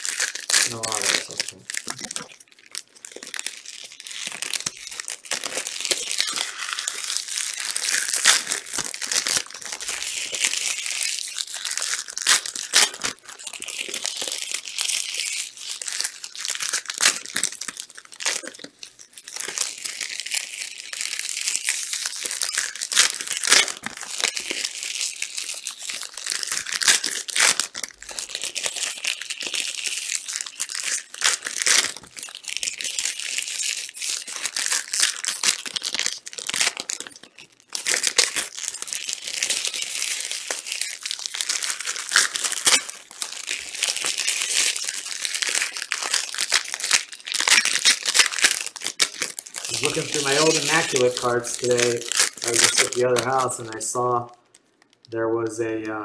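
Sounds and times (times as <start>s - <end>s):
plastic wrappers tearing and crinkling: 0.0s - 56.0s.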